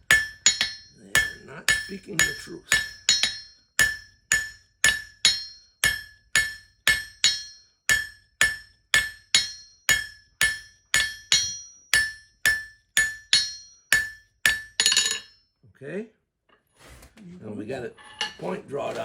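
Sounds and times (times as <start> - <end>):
anvil ringing: 0.0 - 15.4
hammer striking steel on anvil: 0.0 - 15.4.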